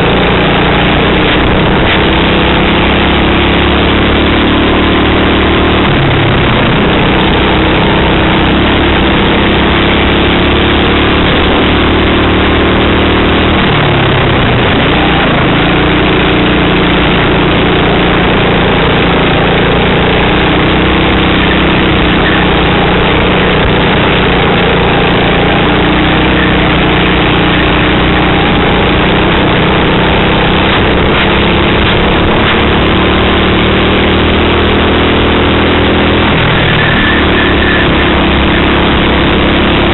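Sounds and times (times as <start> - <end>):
kart engine running hard: 0.0 - 39.9
steady rushing noise: 0.0 - 39.9.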